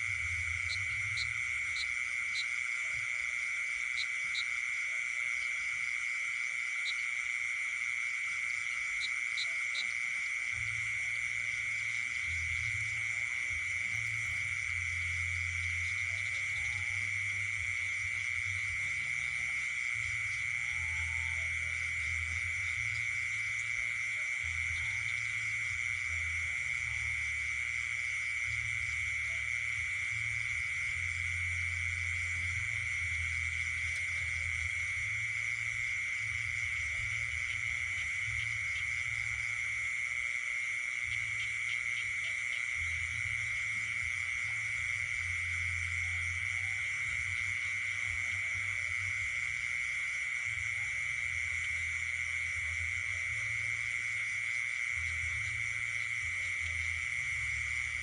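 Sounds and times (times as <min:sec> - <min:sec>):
frogs calling: 0:00.0 - 0:58.0
insects trilling: 0:00.0 - 0:58.0.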